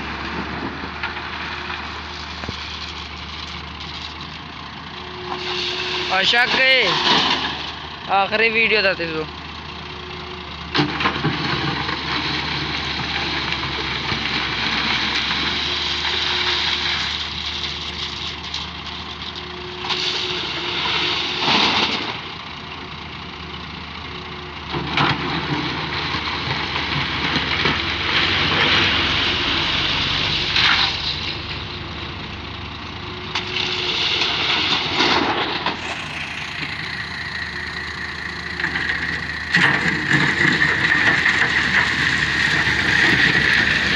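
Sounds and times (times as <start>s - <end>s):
excavator diesel engine surging: 0.0s - 17.6s, 26.0s - 43.9s.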